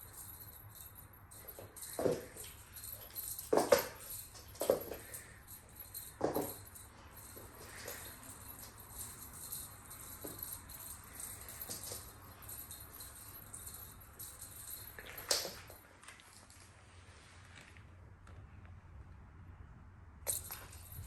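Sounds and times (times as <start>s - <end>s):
light jingling and rattling: 0.0s - 16.6s, 20.3s - 21.0s.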